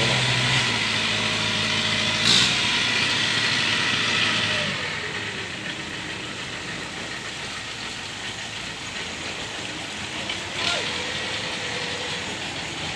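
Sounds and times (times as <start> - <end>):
combine harvester engine running: 0.0 - 12.9.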